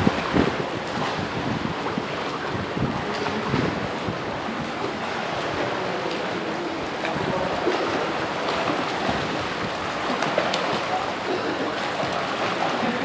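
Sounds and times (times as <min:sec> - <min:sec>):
swimmers splashing in water: 0:00.0 - 0:13.0.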